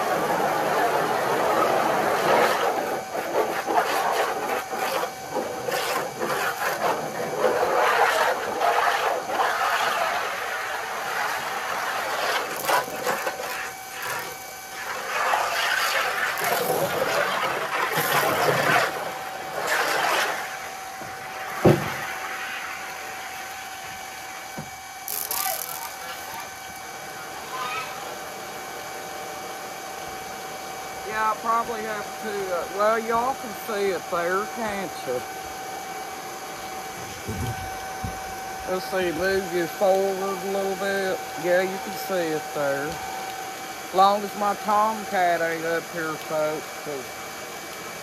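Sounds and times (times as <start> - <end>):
water jet hissing on wood: 0.0 - 26.8, 31.0 - 47.5
pressure washer motor whine: 0.0 - 48.0.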